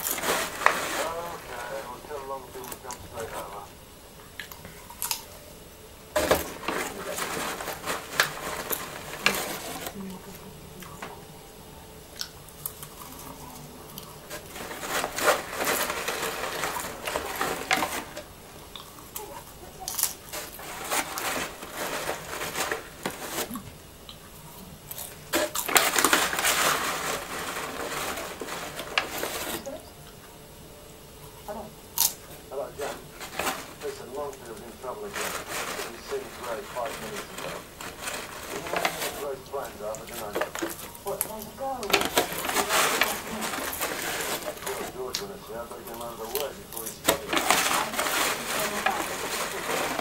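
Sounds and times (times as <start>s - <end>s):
popcorn bag rustling and crinkling: 0.0s - 50.0s.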